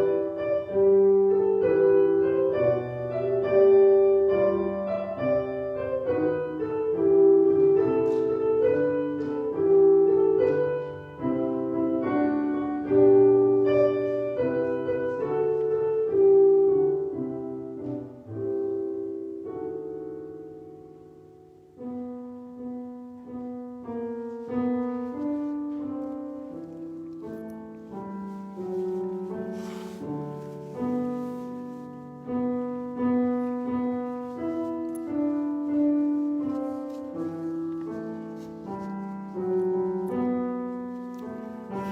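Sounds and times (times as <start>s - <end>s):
slow gentle piano piece: 0.0s - 41.9s.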